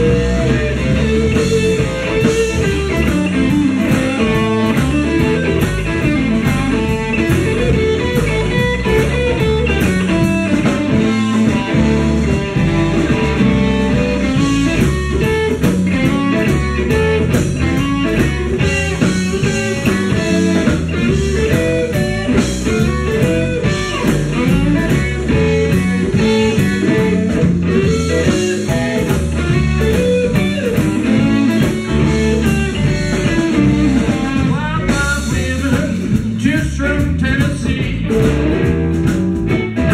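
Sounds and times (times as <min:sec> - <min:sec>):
drums keeping steady beat: 0:00.0 - 0:39.9
guitar playing blues: 0:00.0 - 0:39.9.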